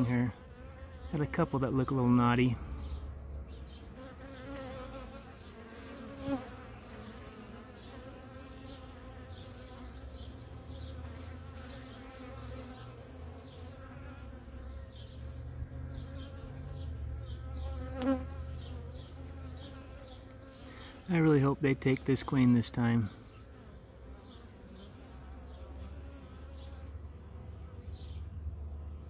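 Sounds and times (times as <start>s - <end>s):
honey bees buzzing: 0.0s - 29.0s.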